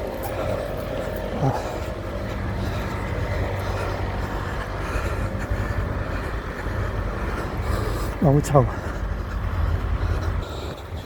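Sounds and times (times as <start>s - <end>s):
faint hum: 0.0s - 11.0s
low rumble: 0.0s - 11.0s.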